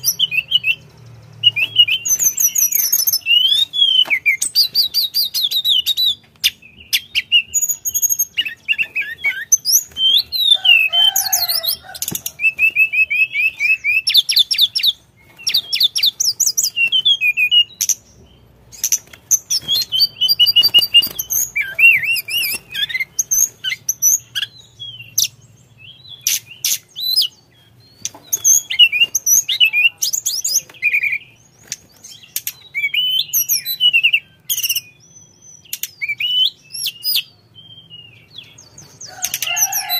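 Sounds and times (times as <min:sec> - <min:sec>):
bird singing twitters and trills: 0:00.0 - 0:39.9.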